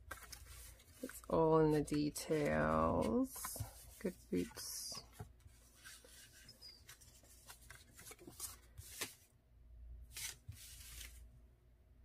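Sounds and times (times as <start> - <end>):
paper cards rustling and sliding: 0.0 - 9.3, 10.0 - 11.4.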